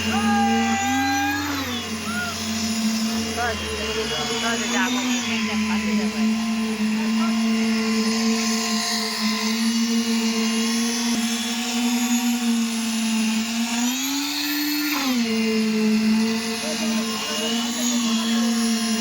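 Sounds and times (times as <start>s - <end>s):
pump engine running under load: 0.0s - 19.0s.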